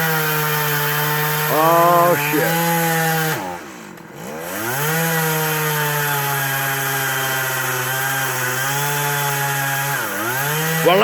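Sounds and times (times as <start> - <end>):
chainsaw cutting tree limb: 0.0 - 11.0.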